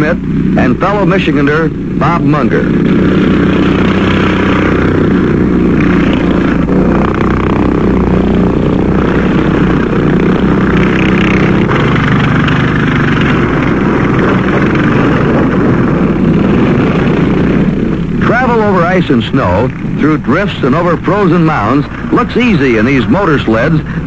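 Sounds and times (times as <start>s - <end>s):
motor sled engine running: 0.0s - 24.0s.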